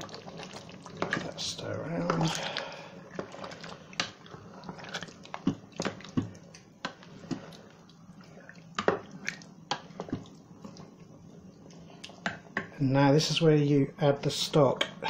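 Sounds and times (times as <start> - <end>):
wet squelches of stirring: 0.0 - 13.6, 14.5 - 15.0.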